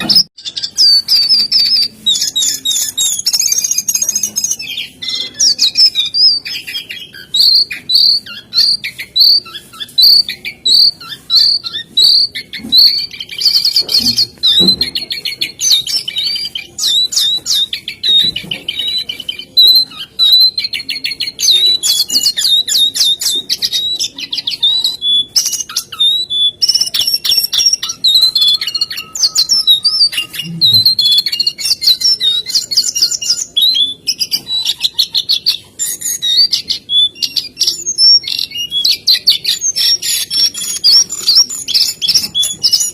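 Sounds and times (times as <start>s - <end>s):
bird chattering trills: 0.0s - 42.9s
bird high whistled notes: 0.0s - 42.9s.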